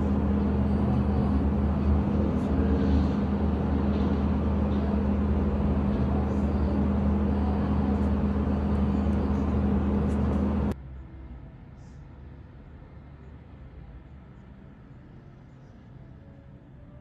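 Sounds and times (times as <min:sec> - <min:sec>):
machine hum with low drone: 0:00.0 - 0:17.0.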